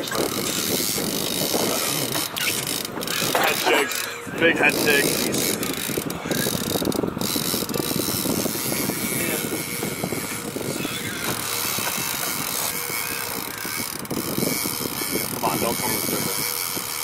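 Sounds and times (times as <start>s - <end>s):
motor drone: 0.0s - 17.0s
wind buffeting microphone: 0.0s - 17.0s.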